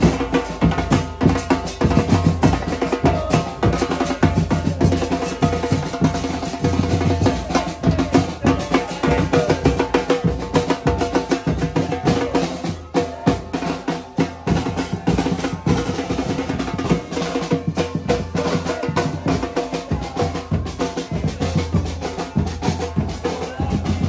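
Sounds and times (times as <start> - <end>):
drum band playing fast rhythm: 0.0 - 24.0.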